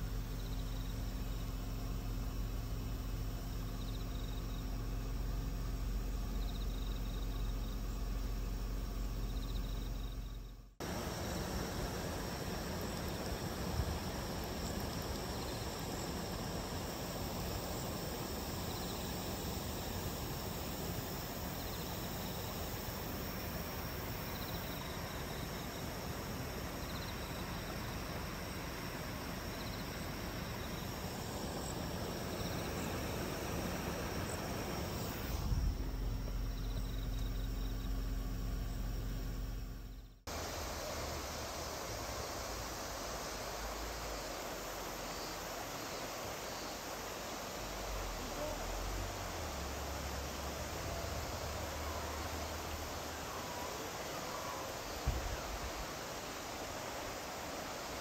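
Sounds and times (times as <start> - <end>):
insects chirping: 0.0 - 58.0
steady hiss: 0.0 - 58.0
steady low hum: 0.0 - 58.0.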